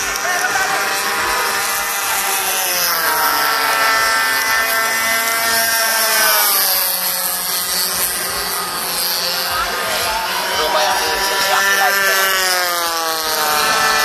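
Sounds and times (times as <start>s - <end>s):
model plane engine buzzing: 0.0s - 14.0s.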